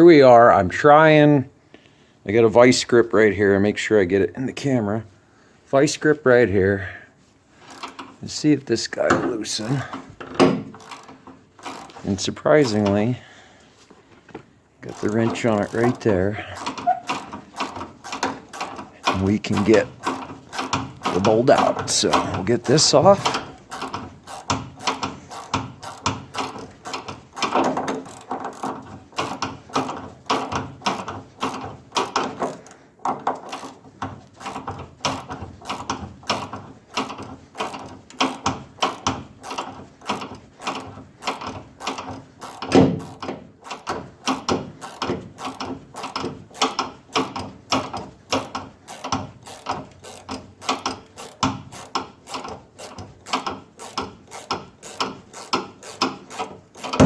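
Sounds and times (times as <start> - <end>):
ratchet wrench clicking: 7.6 - 8.2, 9.6 - 13.0, 14.8 - 57.0.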